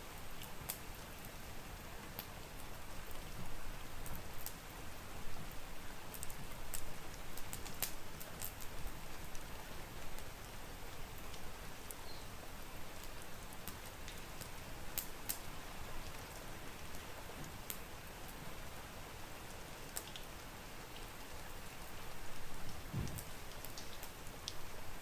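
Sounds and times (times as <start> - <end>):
steady rain: 0.0 - 25.0
wood fire crackling: 0.1 - 25.0.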